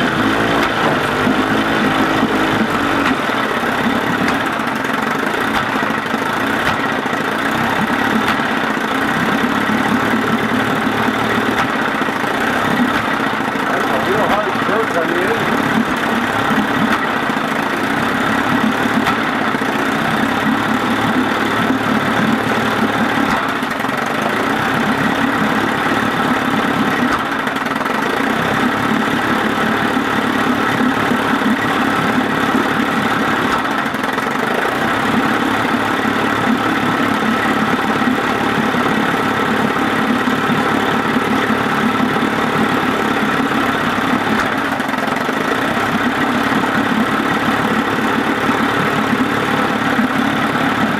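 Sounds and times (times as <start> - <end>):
loud engine clunk: 0.0 - 50.9
outboard motor idling: 0.0 - 50.9.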